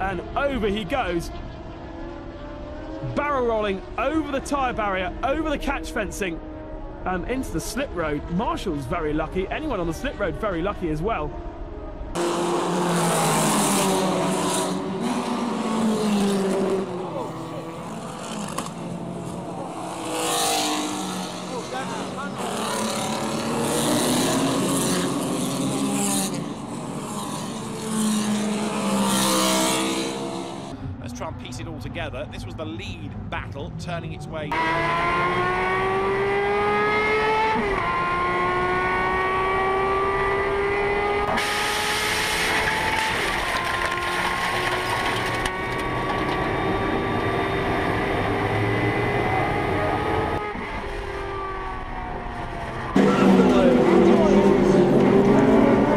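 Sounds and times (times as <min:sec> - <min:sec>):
race car engines revving: 0:00.0 - 0:55.9.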